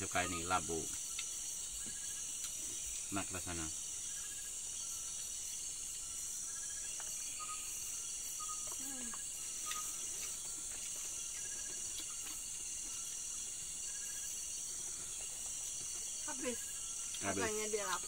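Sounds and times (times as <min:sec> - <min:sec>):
crickets and insects buzzing: 0:00.0 - 0:18.0.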